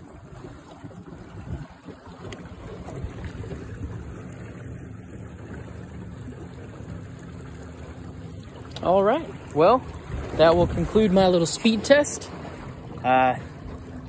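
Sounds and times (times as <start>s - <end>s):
wind buffeting microphone: 0.0s - 7.0s, 9.4s - 14.0s
water washing along boat hull: 0.0s - 14.0s.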